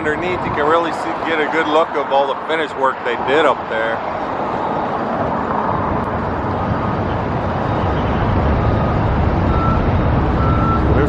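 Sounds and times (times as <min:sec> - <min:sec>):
heavy vehicle engines rumbling: 0:00.0 - 0:11.0.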